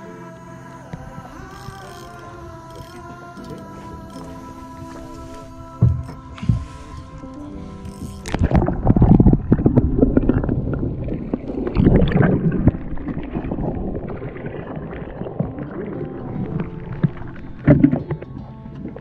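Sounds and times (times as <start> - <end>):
underwater gurgling and rumbling: 0.8 - 19.0.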